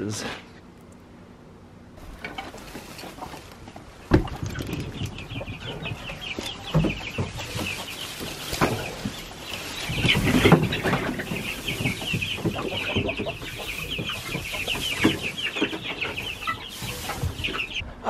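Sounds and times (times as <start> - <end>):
chicks peeping and clucking: 2.0 - 18.0.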